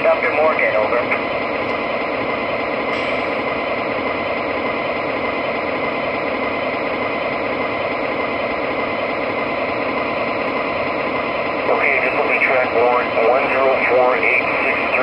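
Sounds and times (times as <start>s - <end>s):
diesel engine sound from small speaker: 0.0s - 15.0s.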